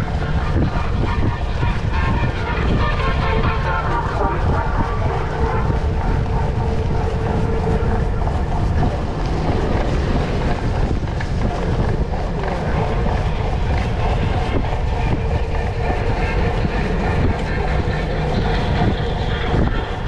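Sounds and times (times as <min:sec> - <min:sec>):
bike rolling rumble and rattle: 0:00.0 - 0:20.0
wind buffeting microphone: 0:00.0 - 0:20.0.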